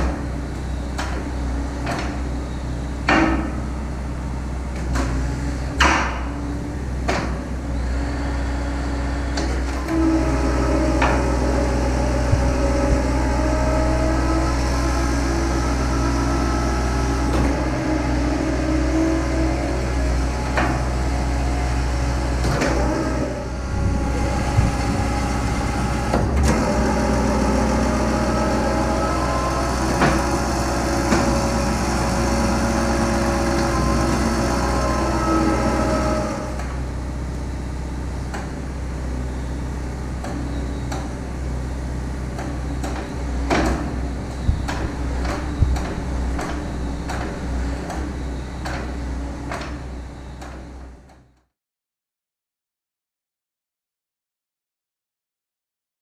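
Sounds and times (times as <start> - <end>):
excavator engine running: 0.0 - 51.4
hydraulics working: 0.0 - 51.4.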